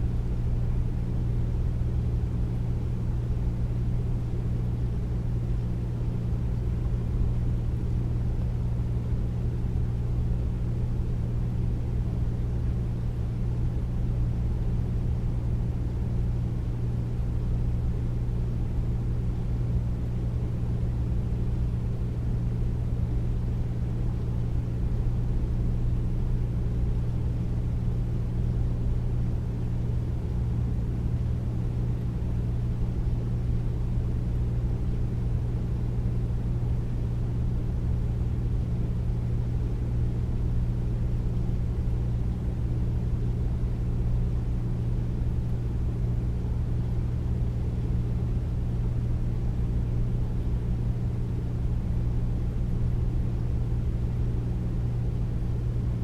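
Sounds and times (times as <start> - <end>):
air conditioner humming: 0.0 - 56.0.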